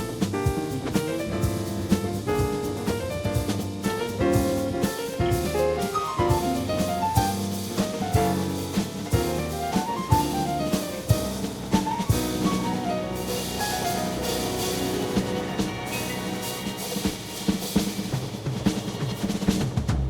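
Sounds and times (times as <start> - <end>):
piano-like notes: 0.0 - 19.3
drum kit beat: 0.0 - 20.0
upbeat jazzy music: 0.0 - 20.0.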